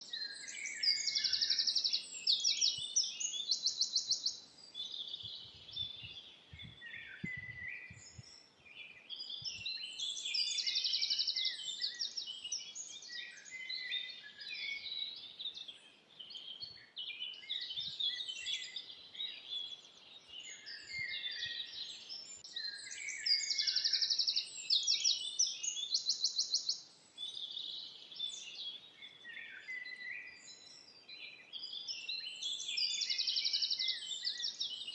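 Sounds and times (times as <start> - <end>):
songbirds chirping and whistling: 0.0 - 34.9.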